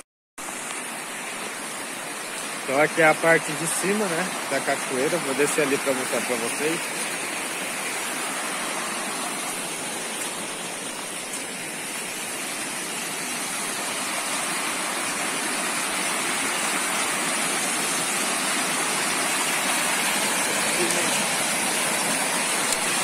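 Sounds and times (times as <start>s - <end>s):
waterfall rushing over rocks: 0.4s - 23.0s.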